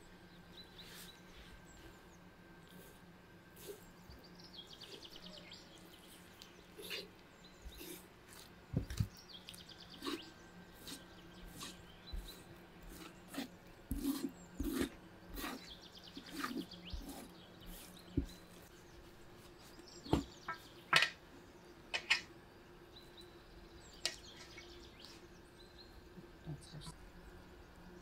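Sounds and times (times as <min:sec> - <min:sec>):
birds chirping faintly: 0:00.0 - 0:28.0.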